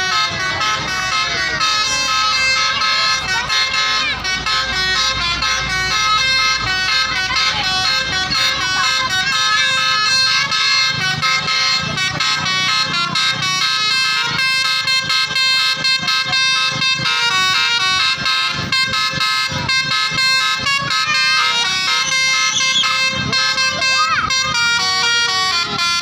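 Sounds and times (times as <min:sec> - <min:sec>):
multi-note air horn tune: 0:00.0 - 0:26.0.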